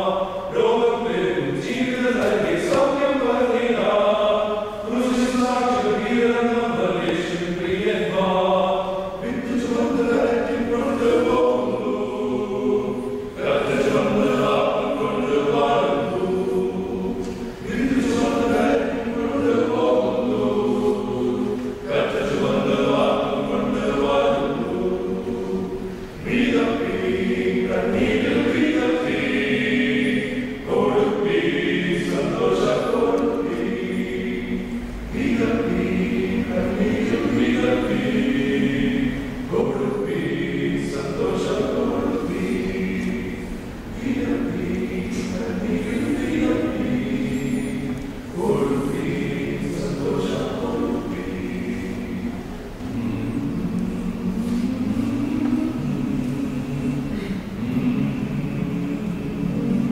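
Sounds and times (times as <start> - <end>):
male choir singing a hymn: 0.0 - 59.9.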